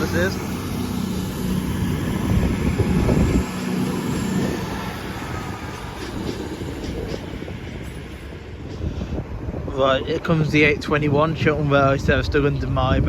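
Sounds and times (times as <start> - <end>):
diesel train engines droning: 0.0 - 13.0.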